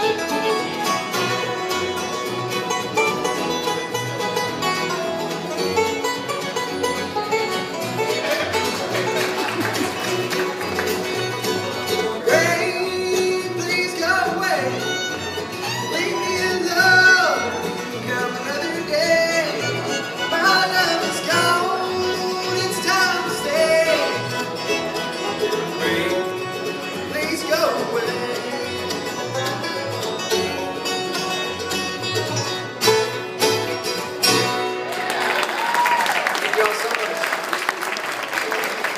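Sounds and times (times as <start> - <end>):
upright bass: 0.0 - 35.3
banjo: 0.0 - 35.7
mandolin: 0.0 - 35.8
fiddle: 0.0 - 36.0
acoustic guitars: 0.0 - 36.8.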